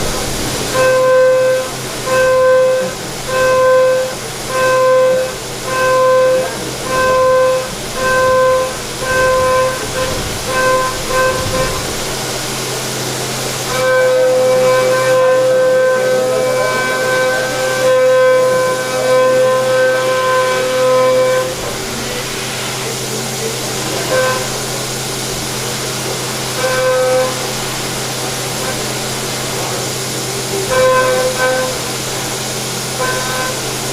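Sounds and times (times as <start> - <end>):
high-pitched cutting tool whine: 0.0 - 12.3, 13.6 - 24.7, 26.5 - 33.9
machine hum: 0.0 - 33.9.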